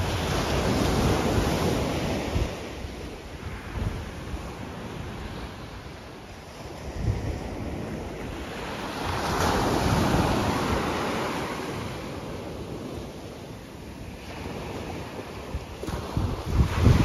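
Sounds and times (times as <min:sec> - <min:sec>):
small waves breaking on sand: 0:00.0 - 0:17.0.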